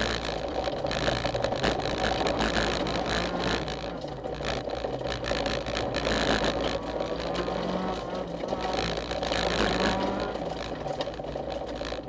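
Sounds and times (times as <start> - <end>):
car engine running hard: 0.0 - 12.0
gravel hitting car underside: 0.0 - 12.0.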